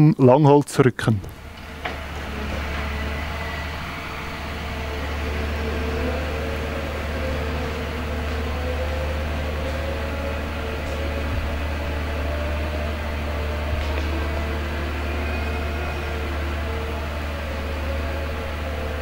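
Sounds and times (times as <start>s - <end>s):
diesel engine running: 1.3s - 19.0s.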